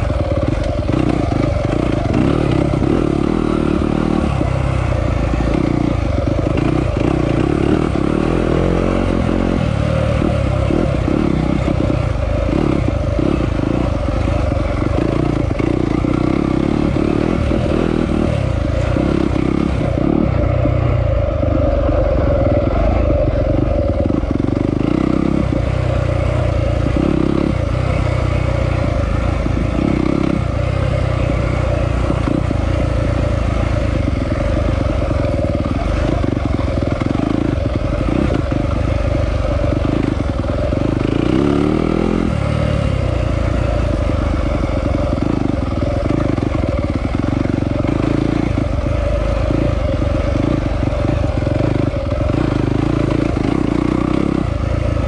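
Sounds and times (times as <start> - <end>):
clatter over rough ground: 0.0 - 55.0
motorcycle engine revving: 0.0 - 55.0.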